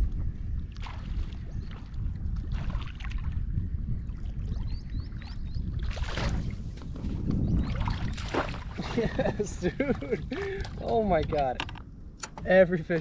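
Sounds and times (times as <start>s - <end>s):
wind rumble on microphone: 0.0s - 13.0s
lure chugging and splashing on water: 0.6s - 11.1s.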